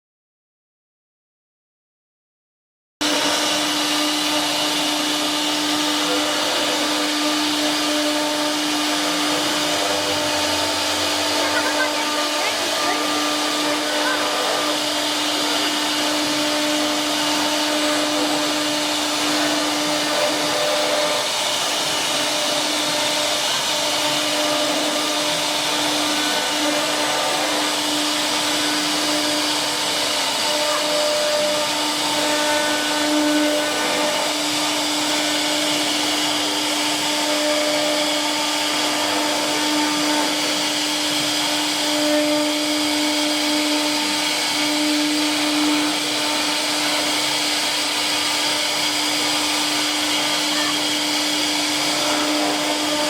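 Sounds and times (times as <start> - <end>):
electric motor humming: 3.0 - 53.0.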